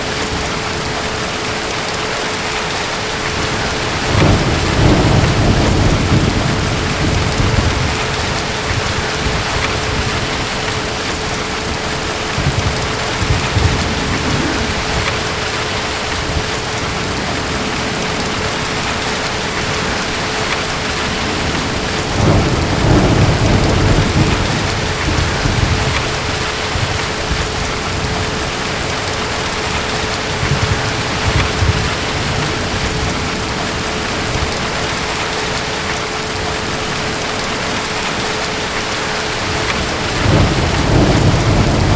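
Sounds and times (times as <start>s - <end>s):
heavy rain: 0.0s - 41.9s
distant thunder rumbling: 2.5s - 36.0s, 36.8s - 41.9s.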